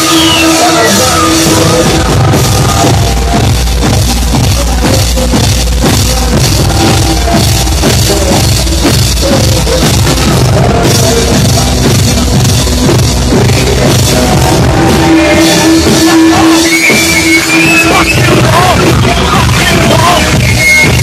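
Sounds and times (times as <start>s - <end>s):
drums heavy beat: 0.0s - 21.0s
live rock band playing: 0.0s - 21.0s.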